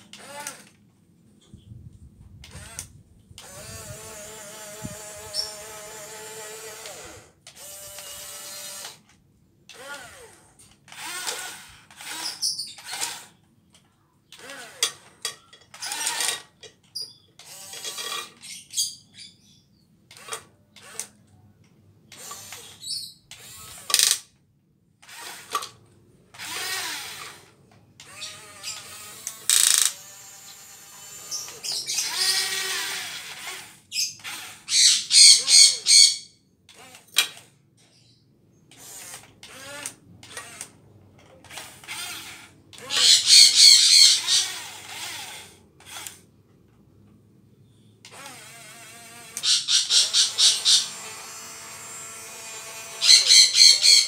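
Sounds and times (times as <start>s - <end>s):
small electric motors whirring: 0.0s - 0.8s, 2.4s - 13.4s, 14.3s - 21.3s, 22.1s - 24.4s, 25.0s - 46.4s, 48.0s - 54.0s.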